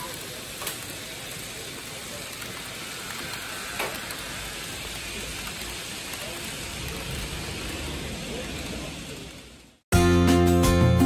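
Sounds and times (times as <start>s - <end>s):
model train rolling rattle: 0.0s - 9.8s.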